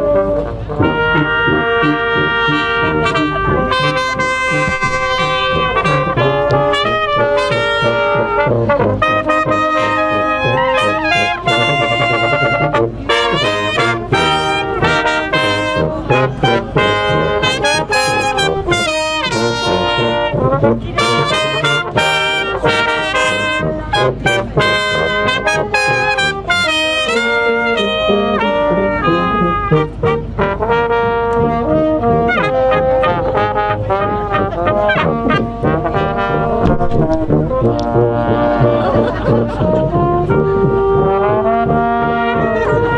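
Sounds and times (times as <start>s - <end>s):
brass ensemble playing: 0.0s - 42.9s.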